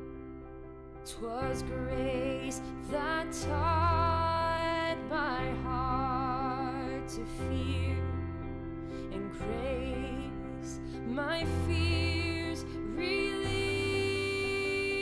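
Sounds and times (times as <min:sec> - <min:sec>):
slow music with held melody: 0:00.0 - 0:15.0.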